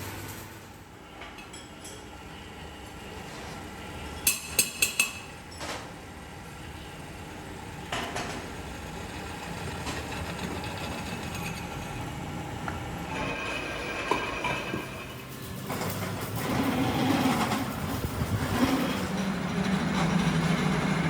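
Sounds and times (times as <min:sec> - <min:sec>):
factory machinery noise: 0:00.0 - 0:21.0.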